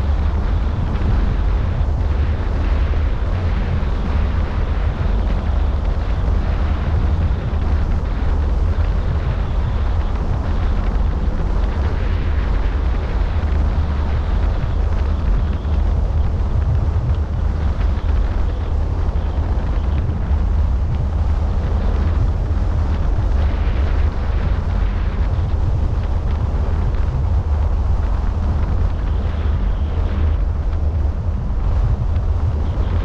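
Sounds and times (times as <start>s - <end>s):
car road noise: 0.0s - 33.0s
wind buffeting microphone: 0.0s - 33.0s.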